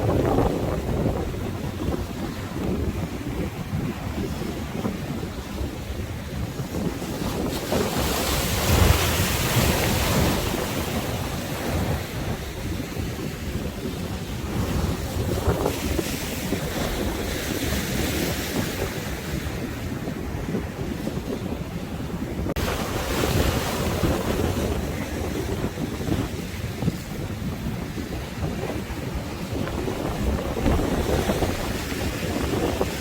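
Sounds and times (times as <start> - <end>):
sea waves breaking: 0.0 - 33.0
wind buffeting microphone: 0.0 - 33.0.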